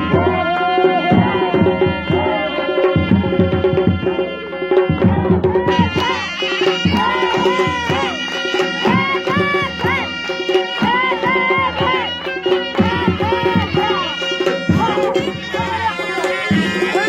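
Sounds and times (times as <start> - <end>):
drums beating: 0.0 - 17.0.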